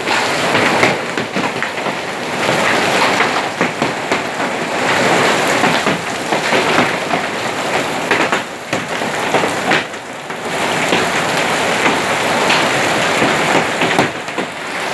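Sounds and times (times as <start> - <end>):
hailstones clattering: 0.0 - 14.9
heavy rain: 0.0 - 14.9.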